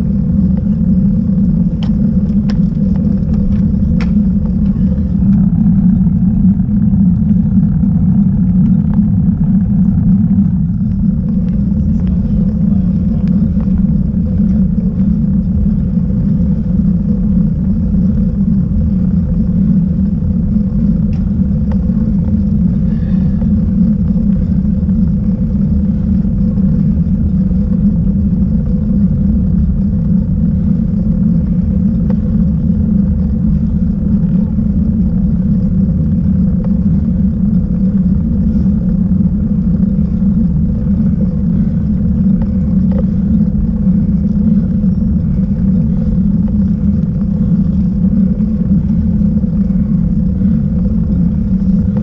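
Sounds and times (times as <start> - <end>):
faint steady hum: 0.0 - 52.0
wind and road rumble: 0.0 - 52.0.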